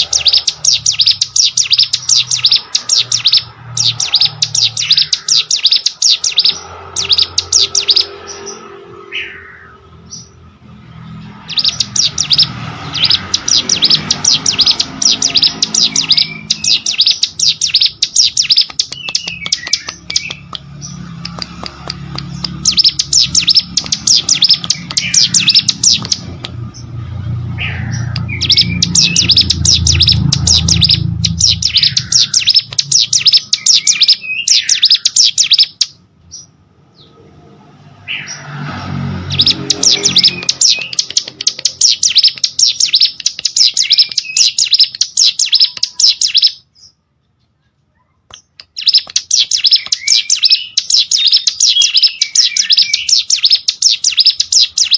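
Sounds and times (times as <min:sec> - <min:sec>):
bird chirping trills: 0:00.0 - 0:54.9.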